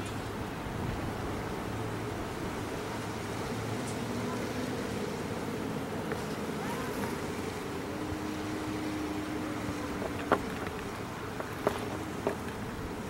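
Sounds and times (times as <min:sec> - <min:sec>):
distant motor hum: 0:00.0 - 0:13.0.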